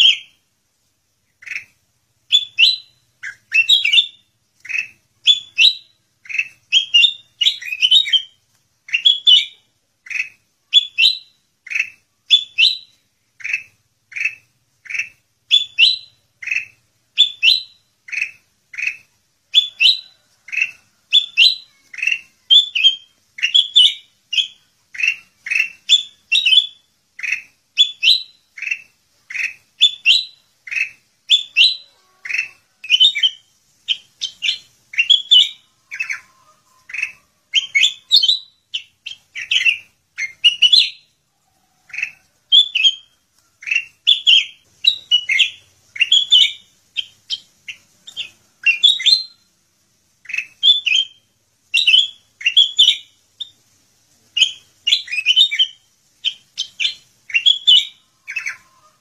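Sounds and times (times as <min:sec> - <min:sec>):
bulbul singing: 0:00.0 - 0:00.4, 0:01.2 - 0:49.6, 0:50.2 - 0:53.6, 0:54.3 - 0:59.0.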